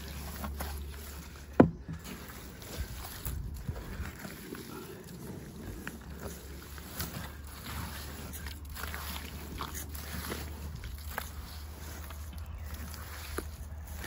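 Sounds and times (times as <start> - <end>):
hands squelching wet clay: 0.0 - 14.0.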